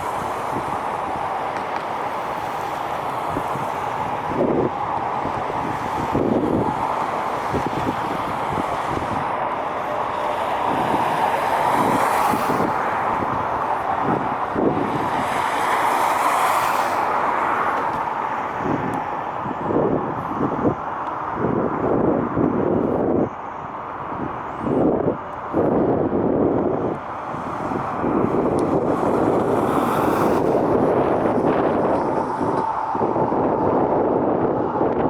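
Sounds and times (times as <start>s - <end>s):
jet engines roaring: 0.0s - 35.0s
wind buffeting microphone: 0.0s - 35.0s.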